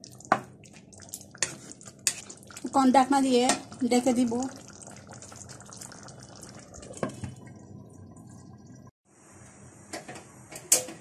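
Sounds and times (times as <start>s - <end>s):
liquid bubbling in a pan: 0.0s - 9.0s.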